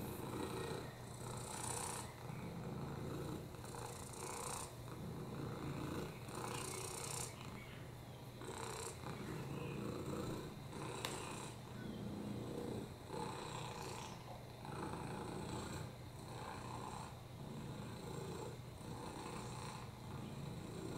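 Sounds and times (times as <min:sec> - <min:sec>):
cat purring: 0:00.0 - 0:20.9.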